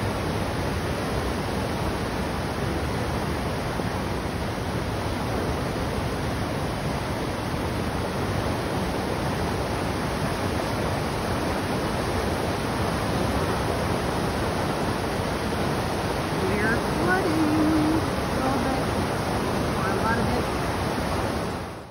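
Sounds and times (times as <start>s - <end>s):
flood water rushing: 0.0s - 21.9s.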